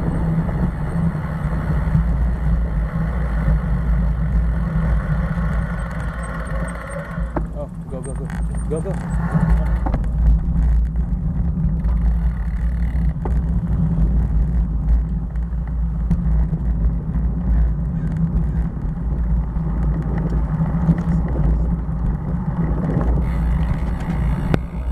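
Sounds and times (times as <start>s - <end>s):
vehicle road noise: 0.0s - 24.9s.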